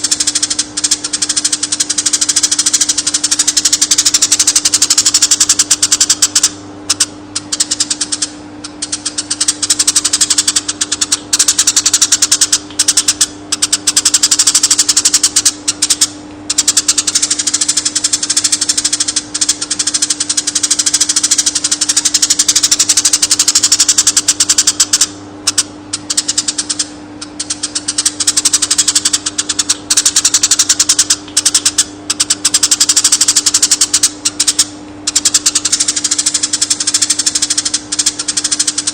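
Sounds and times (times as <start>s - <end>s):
bird chattering trill: 0.0s - 38.9s
steady low hum: 0.0s - 38.9s.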